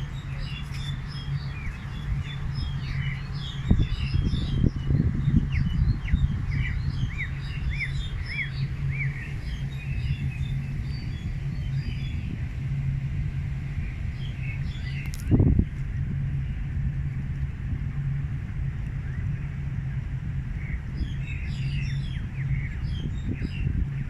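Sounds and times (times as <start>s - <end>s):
songbirds chirping: 0.0s - 17.0s, 17.9s - 24.0s
low rumbling: 0.0s - 24.0s
steady low hum: 0.0s - 24.0s.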